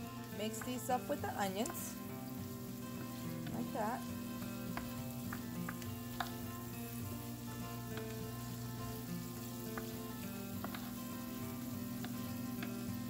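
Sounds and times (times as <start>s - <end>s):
food sizzling in a skillet: 0.0s - 13.0s
spatula stirring food: 0.0s - 13.0s.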